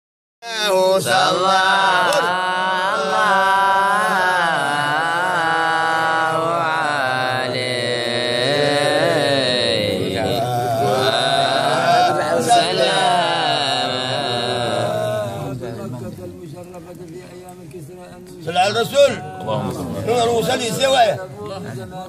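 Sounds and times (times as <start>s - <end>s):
men chanting a devotional hymn: 0.4s - 22.0s.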